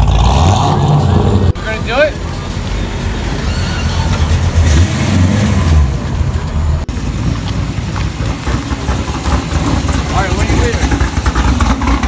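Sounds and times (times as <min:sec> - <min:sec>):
car engine pulling forward: 0:00.0 - 0:12.0.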